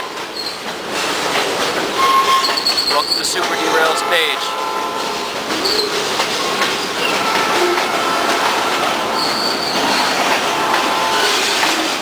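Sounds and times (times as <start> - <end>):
train wheels rushing: 0.0 - 12.0
wheels squealing on rails: 0.0 - 12.0.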